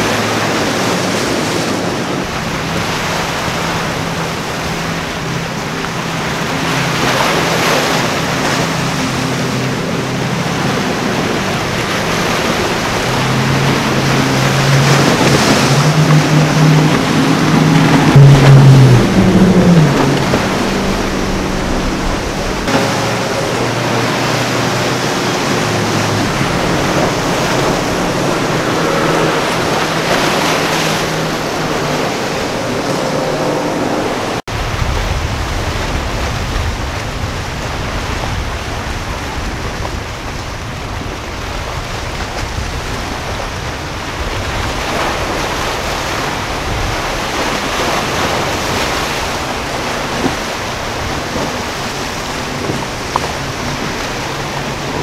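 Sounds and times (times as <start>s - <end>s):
breaking waves: 0.0s - 55.0s
churned water rushing: 0.0s - 55.0s
outboard engines running: 0.0s - 55.0s
wind on microphone: 0.0s - 55.0s.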